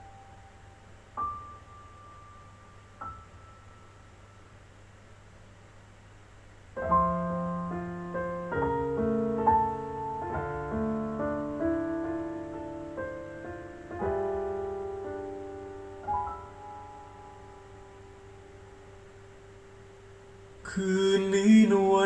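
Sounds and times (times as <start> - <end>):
piano chords ringing: 0.0 - 5.0, 6.8 - 22.0
low mains hum: 0.0 - 22.0.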